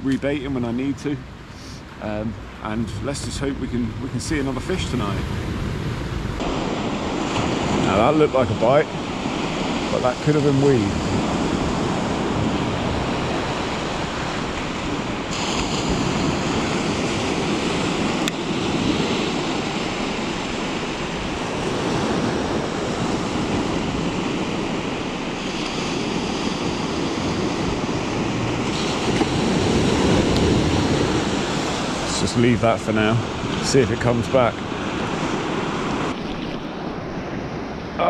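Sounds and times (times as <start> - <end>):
surf washing onto beach: 0.0 - 38.0
wind on microphone: 2.3 - 38.0.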